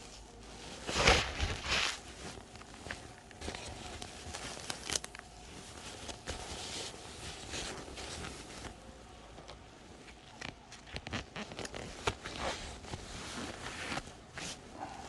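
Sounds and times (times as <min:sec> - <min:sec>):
clothing rustling against microphone: 0:00.0 - 0:15.0.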